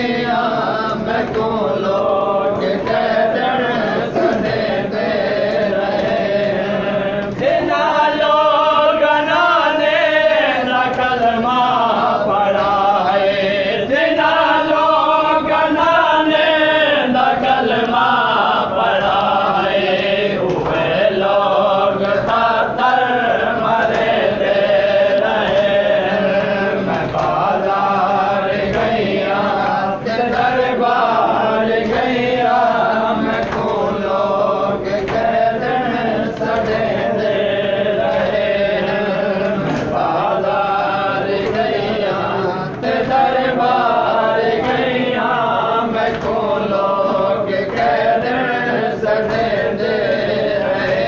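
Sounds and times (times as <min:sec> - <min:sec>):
men chanting a lament: 0:00.0 - 0:51.0.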